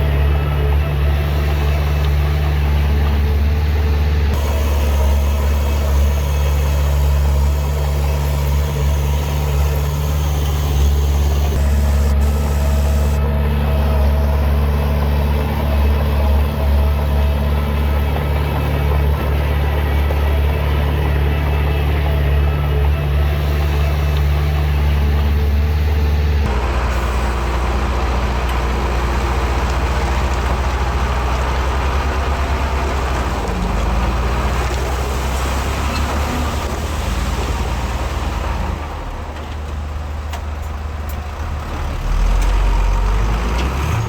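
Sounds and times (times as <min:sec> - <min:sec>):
heavy diesel engine drone: 0:00.0 - 0:44.0.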